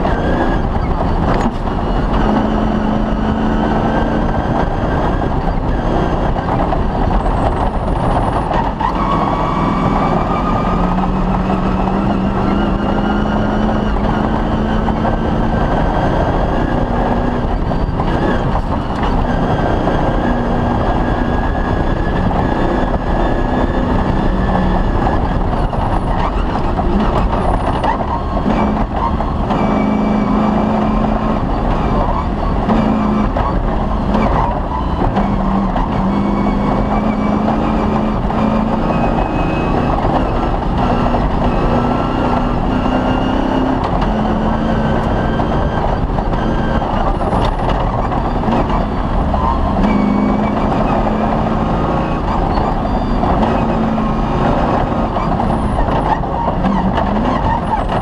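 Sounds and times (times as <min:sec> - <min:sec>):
rally car engine revving: 0:00.0 - 0:58.0
rough track and body noise: 0:00.0 - 0:58.0.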